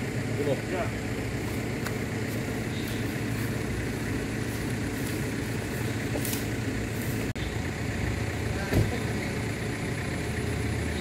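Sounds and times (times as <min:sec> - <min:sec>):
diesel engine running at low revs: 0:00.0 - 0:11.0.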